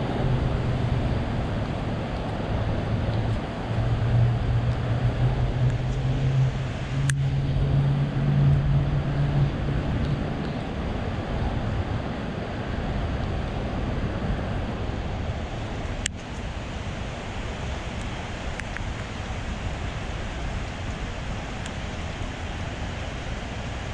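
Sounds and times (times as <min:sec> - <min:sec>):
traffic noise: 0:00.0 - 0:23.9
vehicle engine hum: 0:00.0 - 0:23.9.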